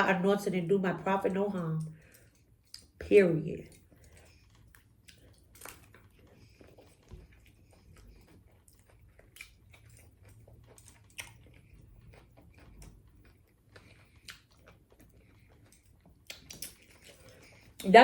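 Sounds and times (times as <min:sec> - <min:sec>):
faint chewing: 0:01.7 - 0:18.0.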